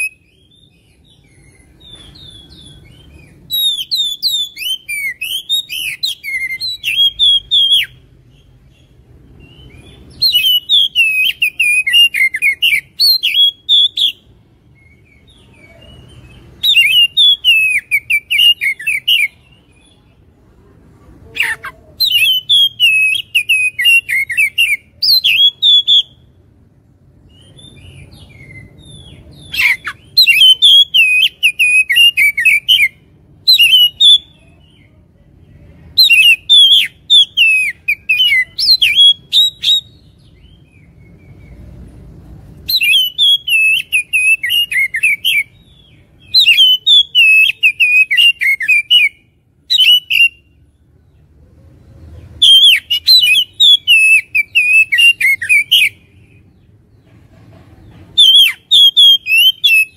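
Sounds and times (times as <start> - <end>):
magpie-robin singing whistled phrases: 0.0 - 20.2, 21.4 - 26.4, 27.3 - 35.0, 35.9 - 41.7, 42.6 - 50.7, 52.4 - 56.5, 58.1 - 59.9.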